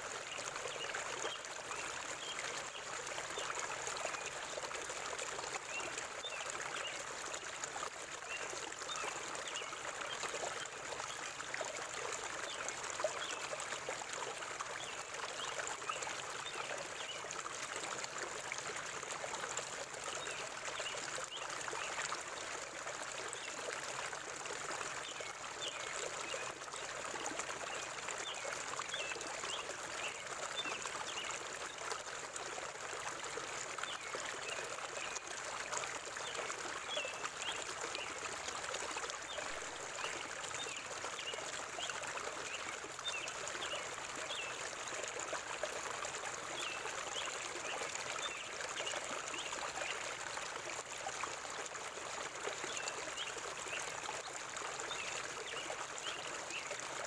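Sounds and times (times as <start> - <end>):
river water flowing over stones: 0.0 - 57.0.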